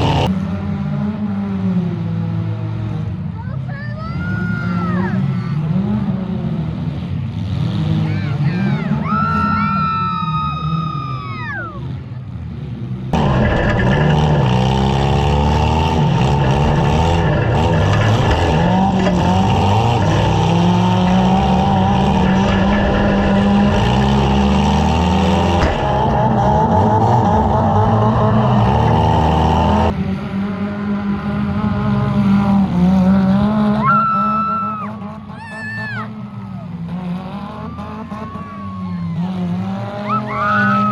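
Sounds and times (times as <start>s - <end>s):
car engines revving hard: 0.0s - 40.9s.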